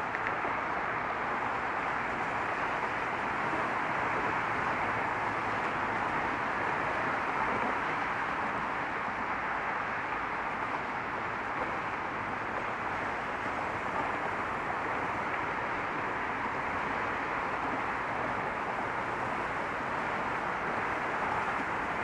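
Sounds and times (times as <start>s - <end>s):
steady road traffic hum: 0.0s - 22.0s.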